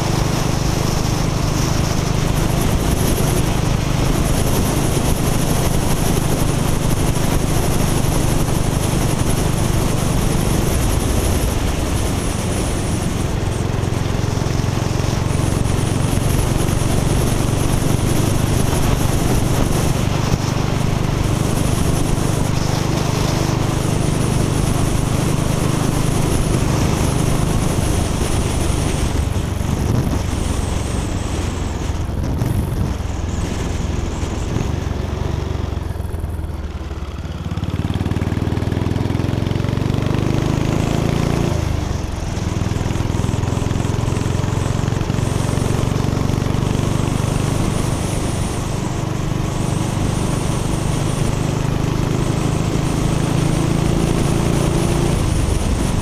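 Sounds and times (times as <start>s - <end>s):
wind rush on microphone: 0.0s - 36.6s, 37.7s - 56.0s
motorcycle engine running: 0.0s - 56.0s.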